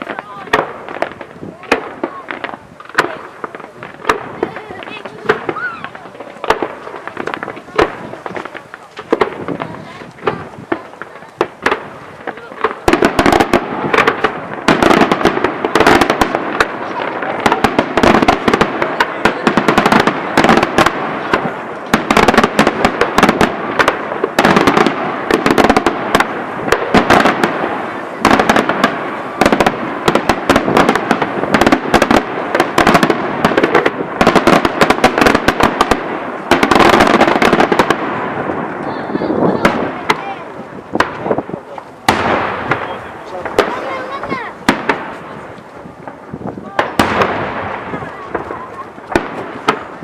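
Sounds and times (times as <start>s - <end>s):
crackling reports: 0.0s - 50.0s
fireworks bursting: 0.0s - 50.0s.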